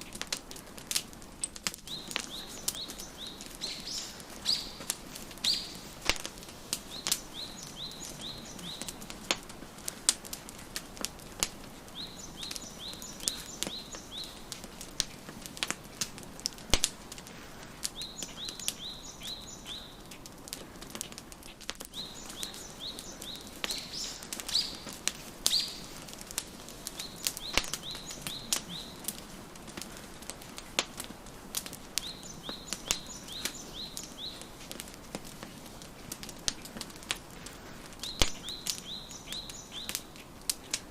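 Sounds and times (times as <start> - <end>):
wood fire crackling: 0.0 - 40.9
songbird singing: 1.5 - 21.2, 21.8 - 40.9.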